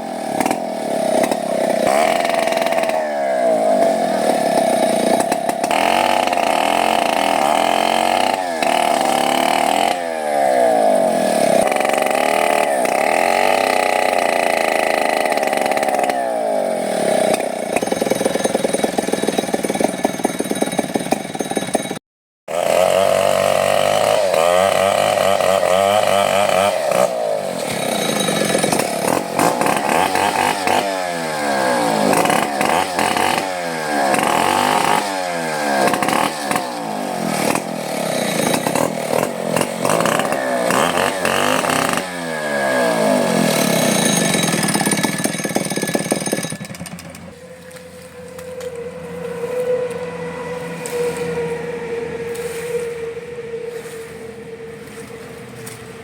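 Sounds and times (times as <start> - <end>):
chainsaw cutting wood: 0.0 - 48.6.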